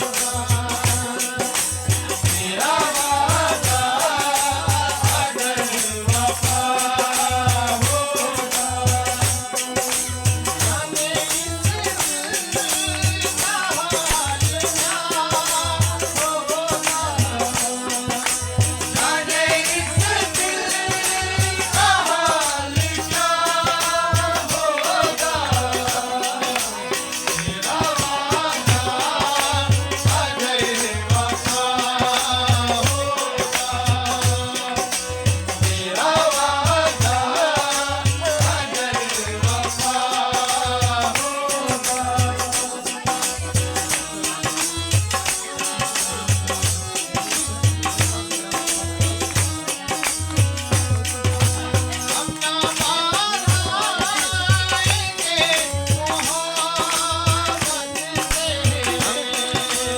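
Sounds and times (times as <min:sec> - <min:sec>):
rattling shaker percussion: 0:00.0 - 0:59.9.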